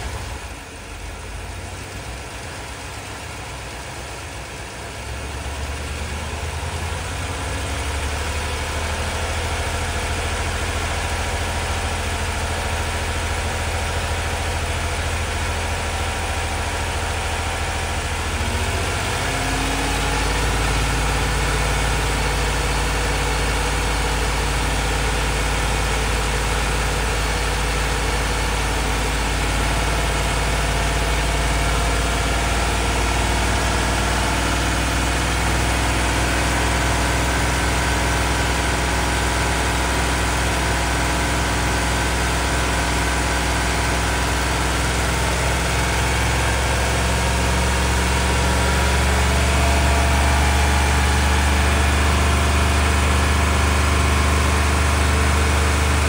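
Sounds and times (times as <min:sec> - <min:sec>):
engine running above idle: 0:00.0 - 0:56.0.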